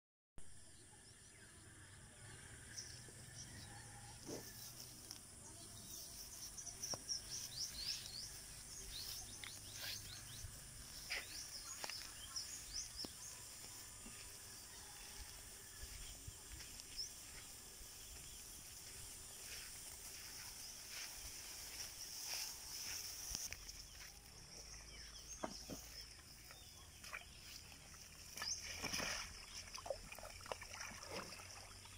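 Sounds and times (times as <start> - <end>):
small birds chirping: 2.8 - 31.9.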